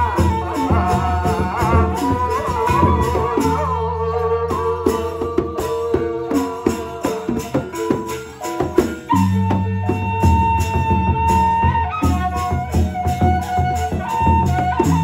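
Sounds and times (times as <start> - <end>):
bamboo flute melody: 0.0 - 15.0
hand-beaten drums: 0.0 - 15.0.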